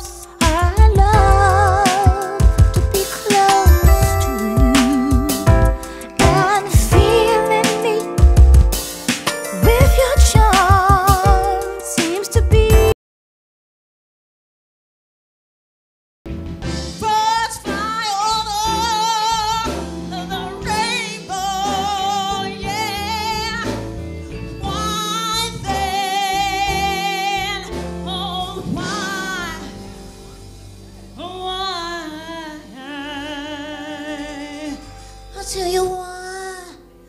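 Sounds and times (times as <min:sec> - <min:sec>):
woman singing into a microphone: 0:00.0 - 0:08.4, 0:09.4 - 0:12.9, 0:17.0 - 0:23.9, 0:24.6 - 0:30.0, 0:31.2 - 0:36.9
instrumental backing music: 0:00.0 - 0:13.0, 0:16.3 - 0:37.0.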